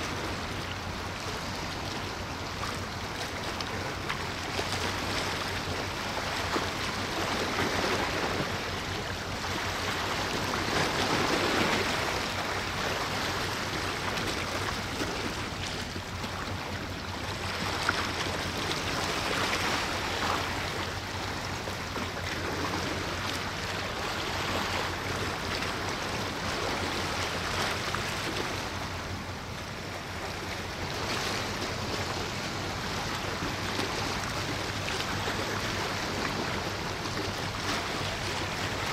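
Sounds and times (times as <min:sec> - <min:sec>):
seawater washing: 0:00.0 - 0:38.9
wind: 0:00.0 - 0:38.9.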